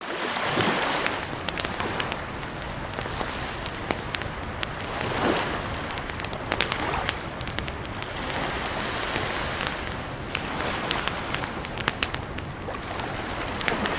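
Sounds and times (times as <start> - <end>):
campfire crackling: 0.1 - 13.9
fire snaps and pops: 0.4 - 13.9.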